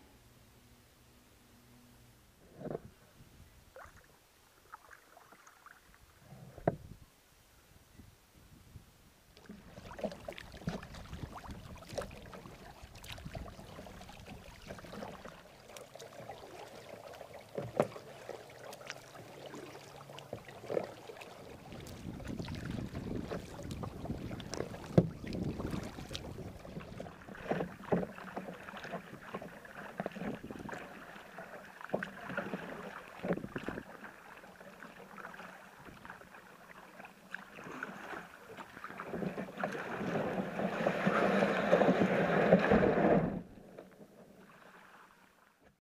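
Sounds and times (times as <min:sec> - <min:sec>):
paddle splashing in water: 0:03.7 - 0:06.8, 0:09.3 - 0:45.8.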